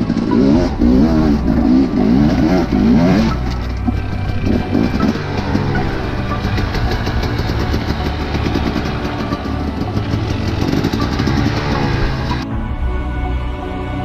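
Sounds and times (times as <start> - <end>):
motorcycle engine revving: 0.0 - 12.5.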